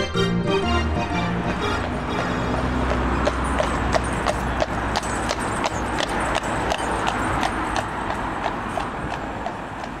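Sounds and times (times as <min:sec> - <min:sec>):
traffic noise: 0:00.0 - 0:10.0
horse hooves clip-clopping: 0:01.6 - 0:10.0.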